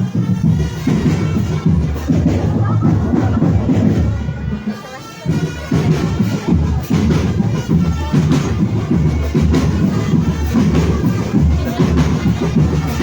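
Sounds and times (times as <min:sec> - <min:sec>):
marching drum band: 0:00.0 - 0:13.0
bass drums pounding: 0:00.1 - 0:13.0.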